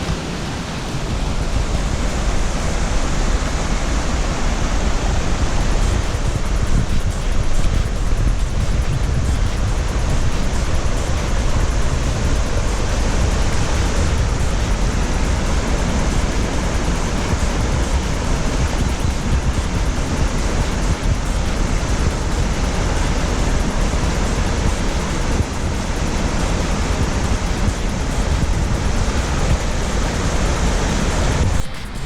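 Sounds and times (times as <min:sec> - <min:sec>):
waterfall rushing: 0:00.0 - 0:31.8.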